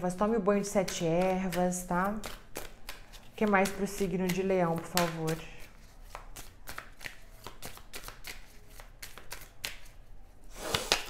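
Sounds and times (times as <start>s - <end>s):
cards being shuffled: 0.6s - 11.0s.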